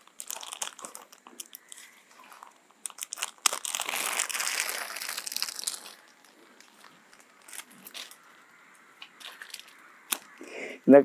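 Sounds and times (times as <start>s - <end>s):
paper and plastic bags crinkling: 0.0s - 10.4s.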